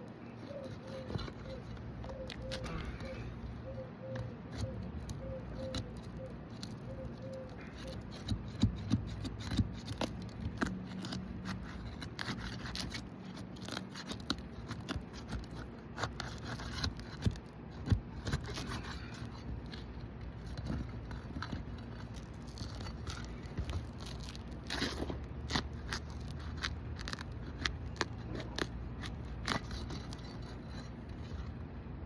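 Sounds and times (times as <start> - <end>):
shingles scraping and clicking: 4.5 - 31.6.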